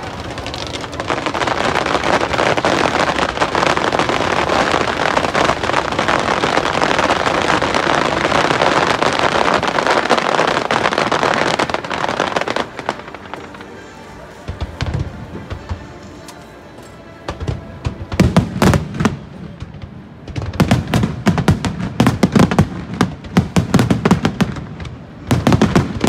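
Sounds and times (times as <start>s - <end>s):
fireworks crackling: 0.0s - 26.0s.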